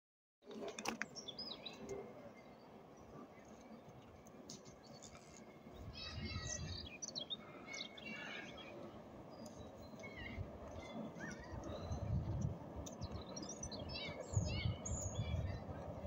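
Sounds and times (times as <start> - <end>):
songbirds chirping and trilling: 0.6 - 16.0.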